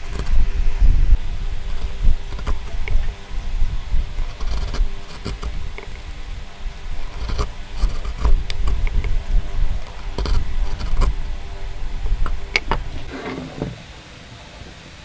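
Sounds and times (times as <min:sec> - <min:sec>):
low rumble: 0:00.0 - 0:13.1
chisel cutting wood: 0:00.0 - 0:13.8.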